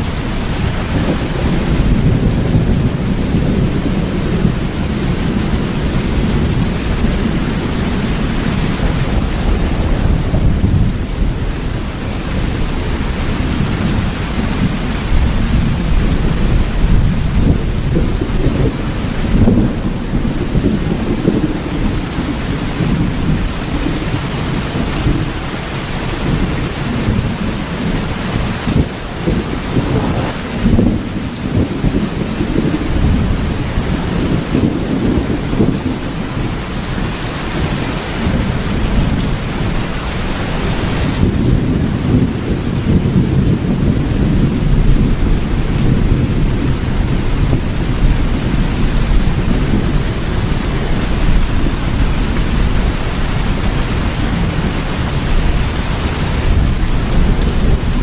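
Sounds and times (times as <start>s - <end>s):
low rolling thunder: 0.0s - 58.0s
steady rain: 0.0s - 58.0s.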